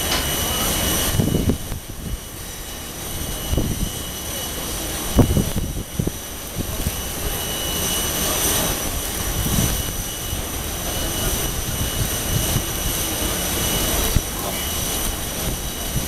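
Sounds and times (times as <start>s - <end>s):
jet engines with high whine: 0.0s - 16.0s.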